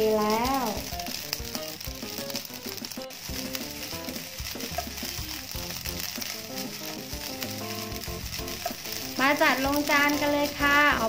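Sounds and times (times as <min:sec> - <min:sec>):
quiet background music: 0:00.0 - 0:11.0
rice sizzling in a pan: 0:00.0 - 0:11.0
spatula stirring and scraping: 0:00.0 - 0:11.0
spatula clicks: 0:00.2 - 0:11.0.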